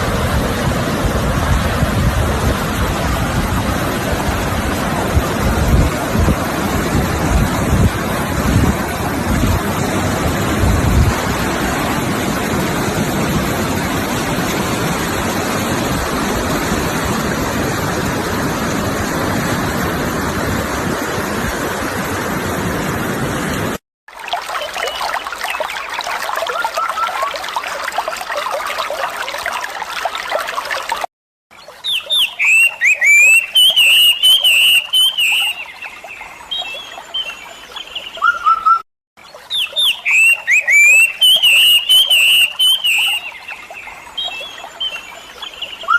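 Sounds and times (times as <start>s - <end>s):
rushing water: 0.0s - 45.9s
trickling stream: 0.0s - 45.9s.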